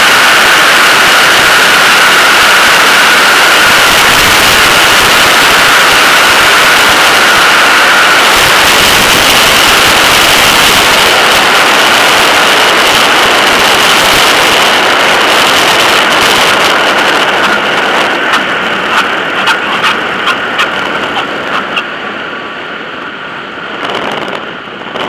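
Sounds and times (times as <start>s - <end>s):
heavy wind rush: 0.0s - 25.0s
propeller plane engine at low power: 0.0s - 25.0s.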